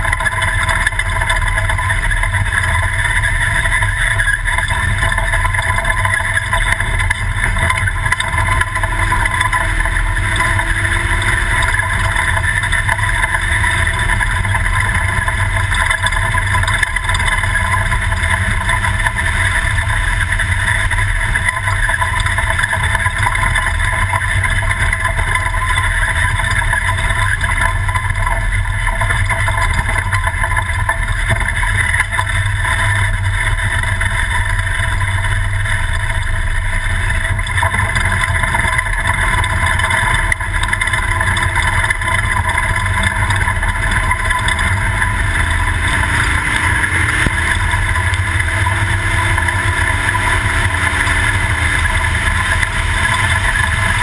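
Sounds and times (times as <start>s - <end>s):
race truck engine revving: 0.0s - 28.2s, 37.2s - 54.0s.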